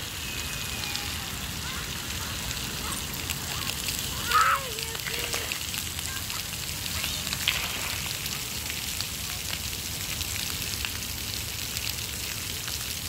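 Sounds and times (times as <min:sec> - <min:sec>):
water jets spraying and pattering: 0:00.0 - 0:13.0.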